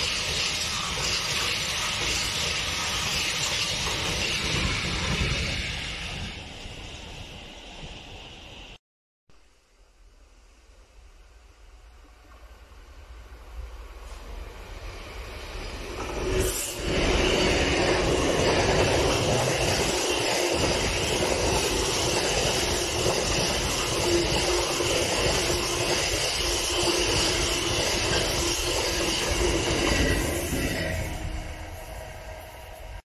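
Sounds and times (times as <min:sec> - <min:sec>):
diesel locomotives passing: 0:00.0 - 0:08.8, 0:11.4 - 0:33.0
freight wagon wheels rumbling on rail: 0:00.0 - 0:08.8, 0:13.2 - 0:33.0.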